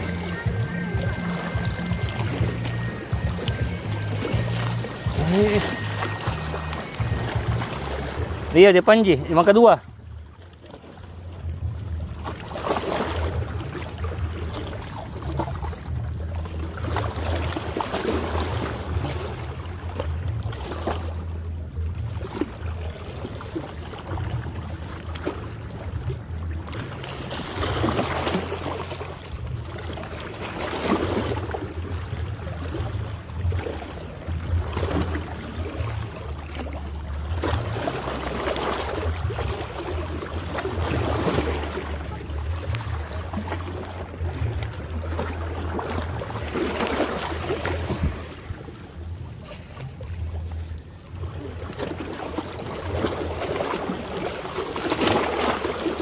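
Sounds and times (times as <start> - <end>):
sea waves lapping on boulders: 0.0 - 56.0.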